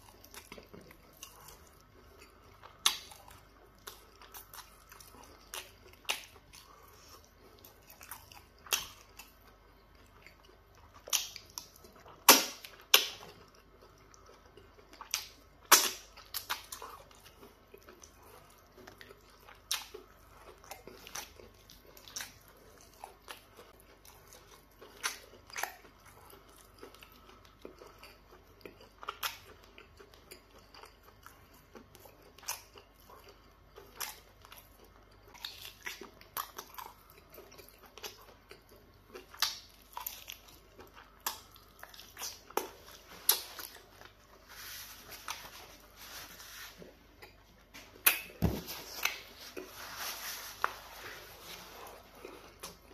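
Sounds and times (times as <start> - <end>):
chewing and wet mouth noises: 0.0 - 52.9.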